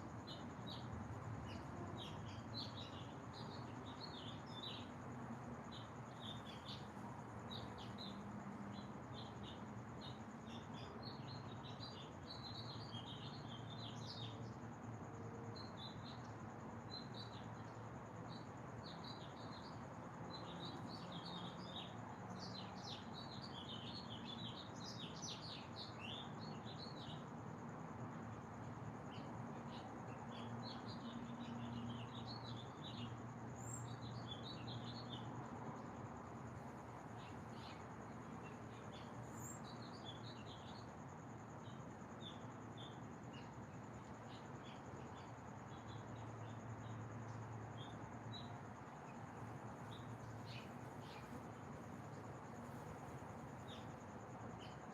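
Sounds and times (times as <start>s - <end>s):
small birds chirping: 0.0s - 27.7s, 28.3s - 54.9s
background hiss: 0.0s - 54.9s.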